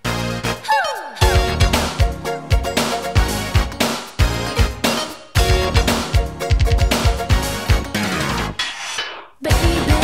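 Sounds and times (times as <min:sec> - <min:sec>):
upbeat pop song instrumental: 0:00.0 - 0:10.0.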